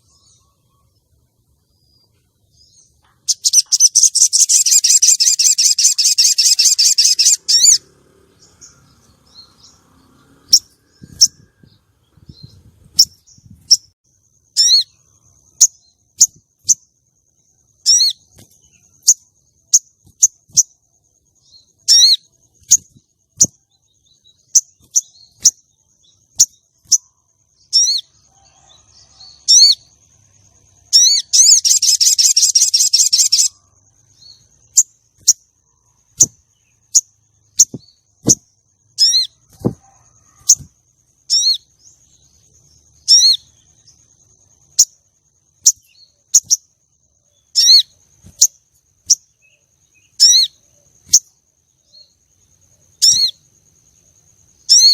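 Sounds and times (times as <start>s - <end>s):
faint high steady tone: 0.0s - 54.9s
sharp single chirps: 1.8s - 9.8s, 10.4s - 53.6s, 54.5s - 54.9s.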